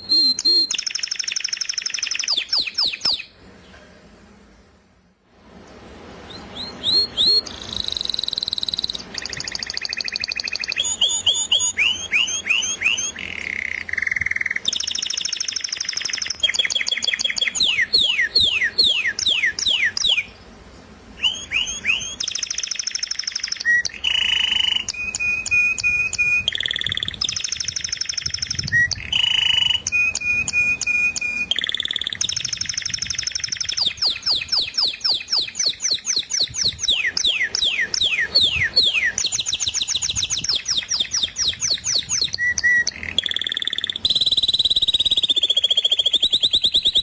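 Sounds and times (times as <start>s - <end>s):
songbird singing trills: 0.0s - 3.4s, 6.3s - 47.0s.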